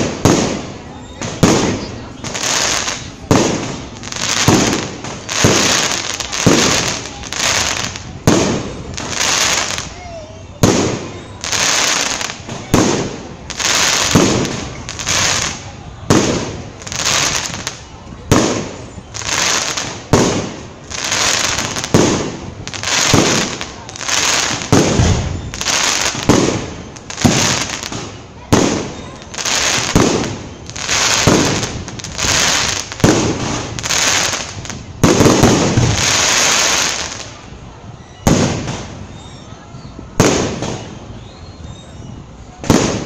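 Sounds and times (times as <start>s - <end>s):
fireworks bursting with echoing bangs: 0.0s - 10.0s, 10.6s - 37.6s, 38.2s - 39.3s, 40.2s - 41.1s, 42.6s - 43.0s.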